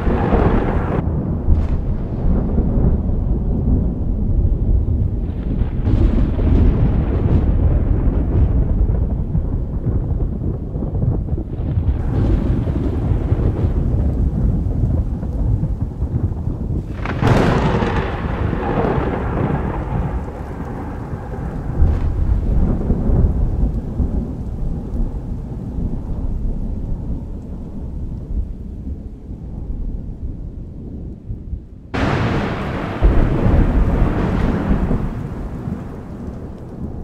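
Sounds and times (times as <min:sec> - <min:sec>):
rain: 0:00.0 - 0:37.0
thunder rumbling and cracking: 0:00.0 - 0:37.0.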